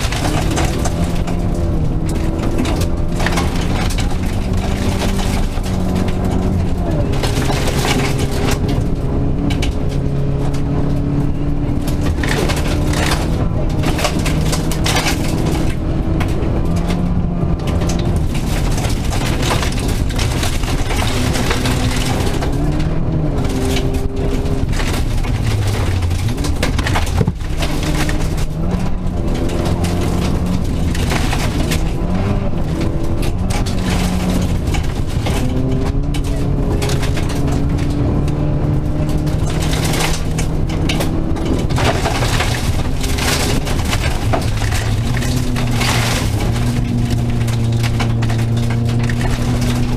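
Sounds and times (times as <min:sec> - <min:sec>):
rally car engine revving: 0:00.0 - 0:49.9
tyres rumbling on gravel: 0:00.0 - 0:49.9.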